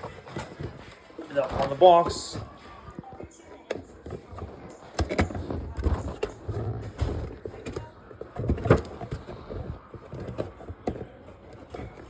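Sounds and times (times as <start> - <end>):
plastic toy and box handled: 0.0 - 12.0.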